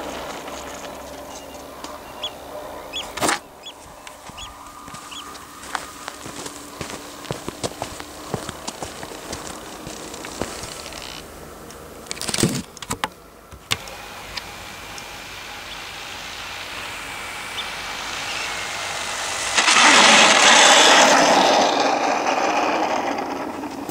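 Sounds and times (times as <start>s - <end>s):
model plane propeller rushing: 0.0s - 11.3s, 13.7s - 23.9s
electric motor whine: 0.0s - 12.7s, 13.5s - 23.9s.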